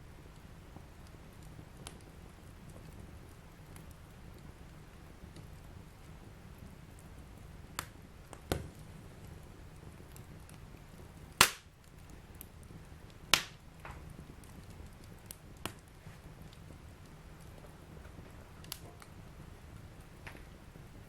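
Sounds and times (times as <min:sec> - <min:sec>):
fire crackling pops: 0:00.0 - 0:21.0
fire rumbling: 0:00.0 - 0:21.0.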